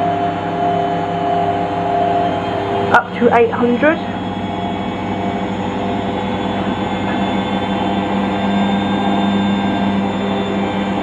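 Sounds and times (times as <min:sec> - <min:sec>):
washing machine drum spinning: 0:00.0 - 0:11.0.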